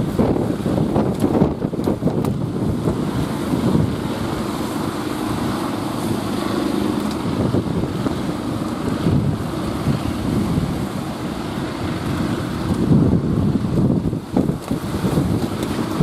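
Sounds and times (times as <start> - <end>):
surf breaking: 0.0 - 16.0
wind buffeting microphone: 0.0 - 16.0.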